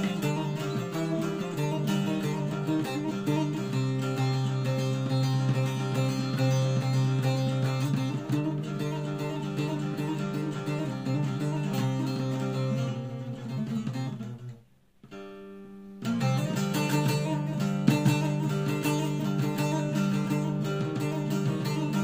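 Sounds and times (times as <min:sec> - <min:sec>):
plucked string instrument music: 0:00.0 - 0:22.0.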